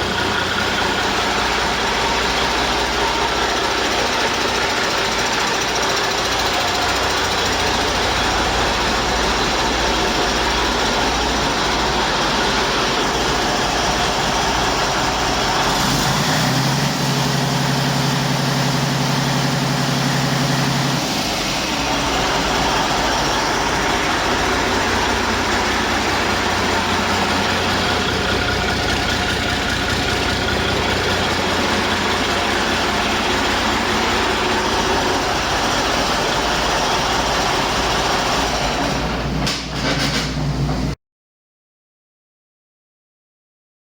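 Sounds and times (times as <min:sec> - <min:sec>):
diesel engine idling: 0:00.0 - 0:39.4.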